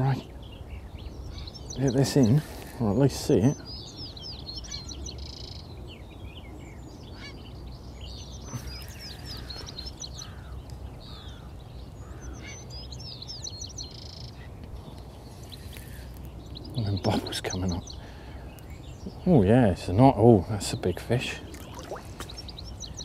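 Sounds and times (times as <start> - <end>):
songbirds singing and chirping: 0.0 - 23.0.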